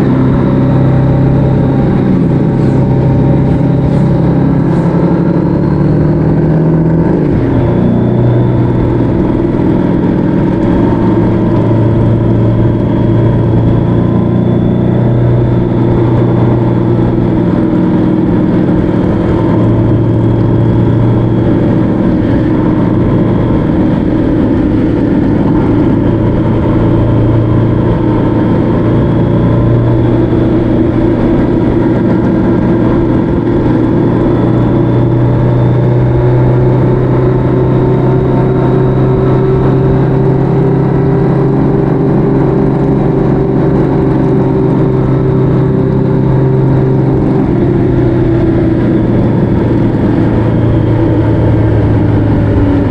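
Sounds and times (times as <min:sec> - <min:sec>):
motorcycle engine cruising: 0:00.0 - 0:52.9
road and wind noise: 0:00.0 - 0:52.9.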